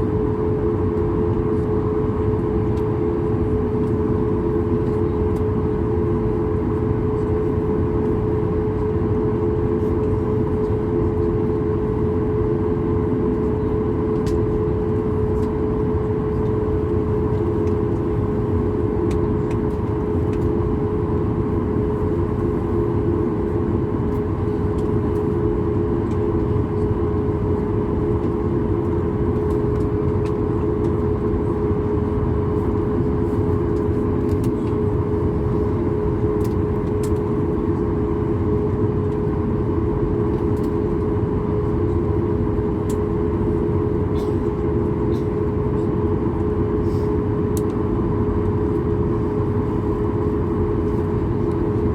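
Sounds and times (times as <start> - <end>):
jet engine droning in cabin: 0.0 - 51.9.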